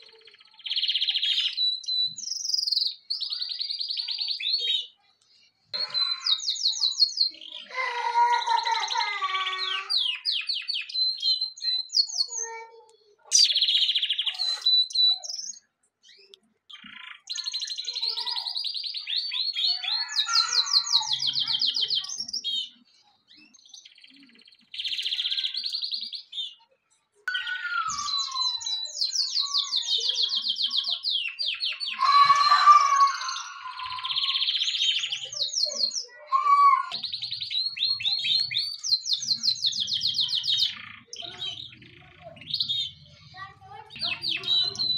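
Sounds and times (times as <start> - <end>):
canary singing high trills: 0.0 - 5.0, 8.4 - 26.6, 27.3 - 43.0.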